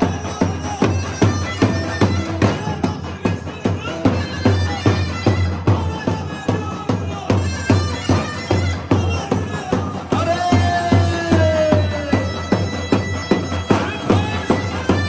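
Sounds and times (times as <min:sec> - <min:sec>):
reedy shawm dance tune: 0:00.0 - 0:15.0
steady drum beat: 0:00.0 - 0:15.0.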